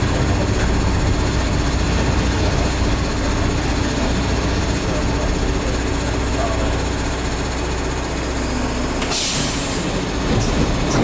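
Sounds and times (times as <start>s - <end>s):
train rumble and drone: 0.0s - 11.0s.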